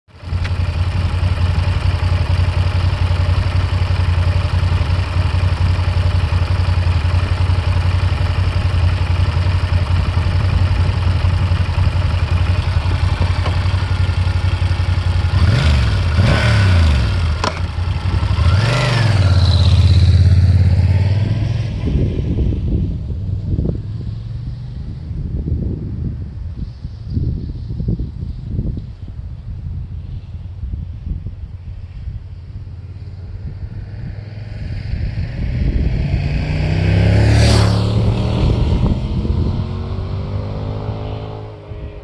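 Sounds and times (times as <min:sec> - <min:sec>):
motorcycle engine idling and revving: 0:00.1 - 0:42.0.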